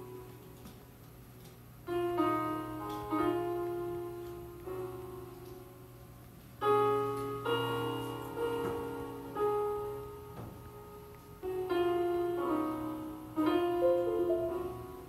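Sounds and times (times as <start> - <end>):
piano-like chords ringing: 0.0 - 15.0
steady low hum: 0.0 - 15.0.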